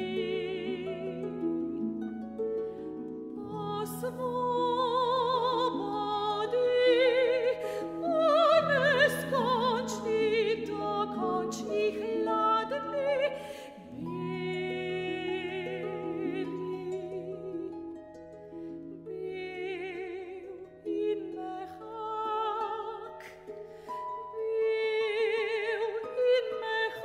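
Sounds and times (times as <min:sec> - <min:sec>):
soprano singing with vibrato: 0:00.0 - 0:01.8, 0:03.4 - 0:18.0, 0:19.0 - 0:23.5, 0:24.2 - 0:27.0.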